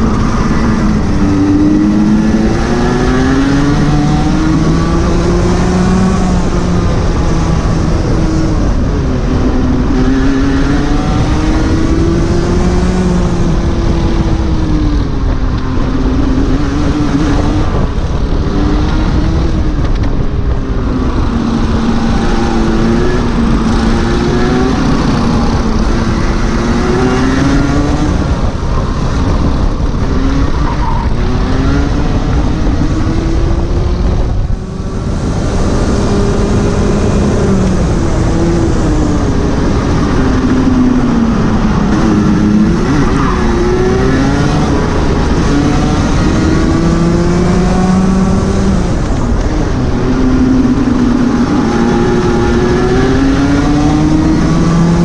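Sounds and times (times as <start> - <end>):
kart engine revving: 0.0 - 55.0
steady rushing noise: 0.0 - 55.0.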